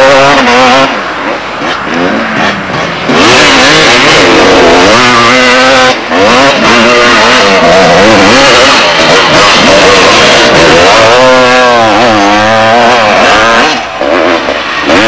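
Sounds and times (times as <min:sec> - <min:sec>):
motocross engine revving: 0:00.0 - 0:15.0.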